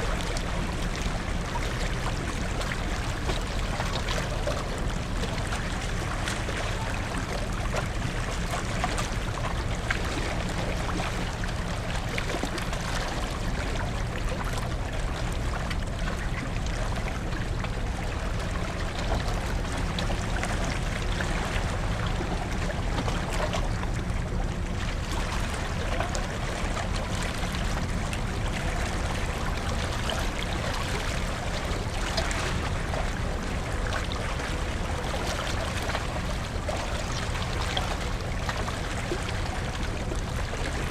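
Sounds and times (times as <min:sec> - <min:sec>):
water rushing past hull: 0:00.0 - 0:40.9.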